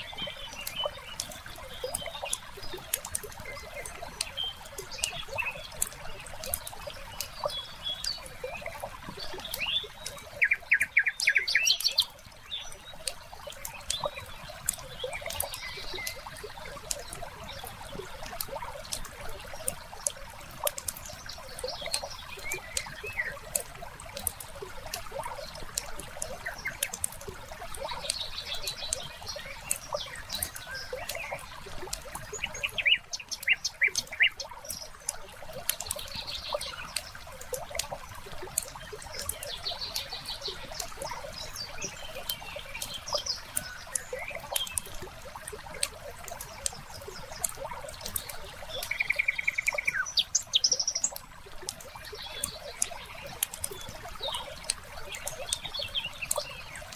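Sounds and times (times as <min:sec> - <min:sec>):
faint trickle of water: 0:00.0 - 0:56.9
songbirds chirping: 0:00.0 - 0:56.9
wood fire crackling: 0:00.4 - 0:10.4, 0:11.8 - 0:32.4, 0:33.1 - 0:56.9.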